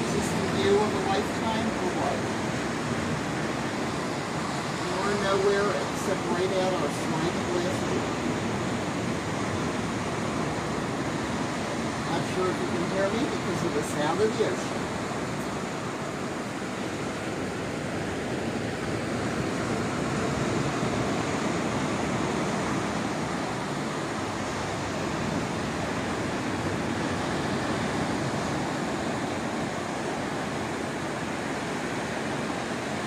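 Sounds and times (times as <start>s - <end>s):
ocean surf breaking: 0.0s - 33.0s.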